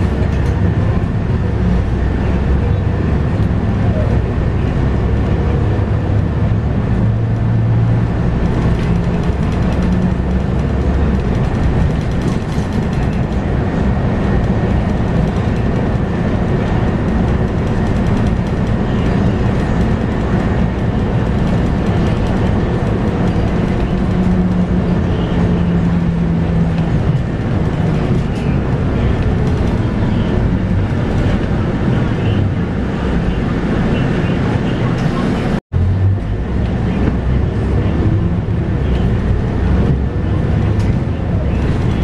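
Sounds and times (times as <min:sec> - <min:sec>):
bus diesel engine running: 0:00.0 - 0:42.0
road rumble: 0:00.0 - 0:42.0.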